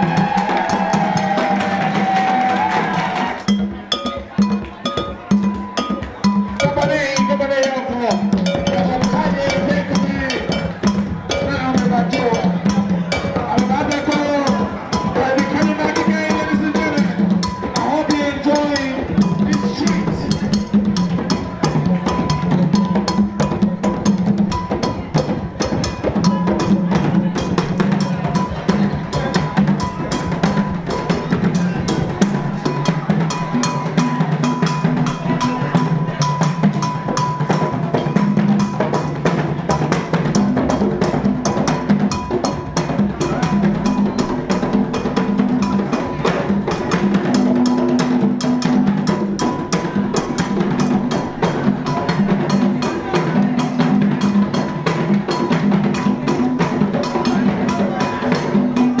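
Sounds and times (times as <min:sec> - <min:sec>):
drum struck with sticks: 0:00.0 - 0:59.0
hand drum ensemble playing: 0:00.0 - 0:59.0.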